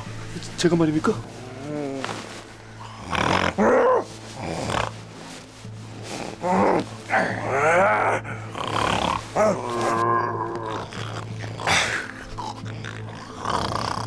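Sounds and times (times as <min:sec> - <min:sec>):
loud snoring: 0:01.4 - 0:05.2, 0:06.0 - 0:14.0.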